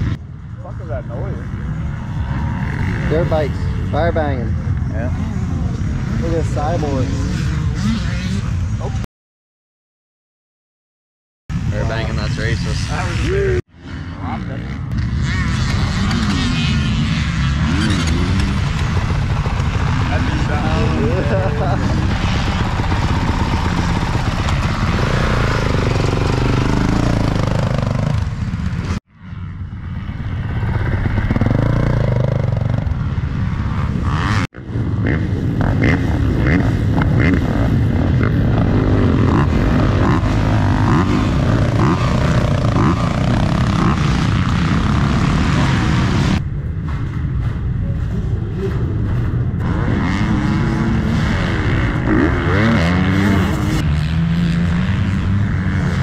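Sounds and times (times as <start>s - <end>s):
dirt bike engines revving: 0.0s - 9.1s, 11.5s - 56.0s.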